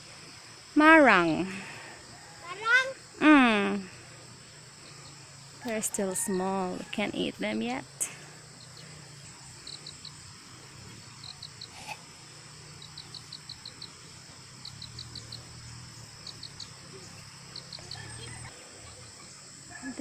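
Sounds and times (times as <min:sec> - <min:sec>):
high-pitched insect drone: 0:00.0 - 0:20.0
insects chirping: 0:00.0 - 0:20.0.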